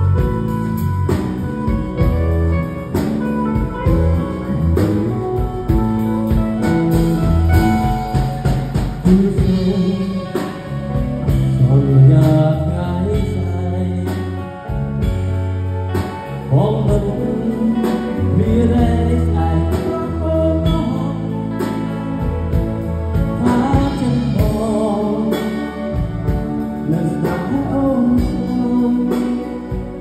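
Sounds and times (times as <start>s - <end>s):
bass line: 0.0s - 30.0s
electric guitar: 0.0s - 30.0s.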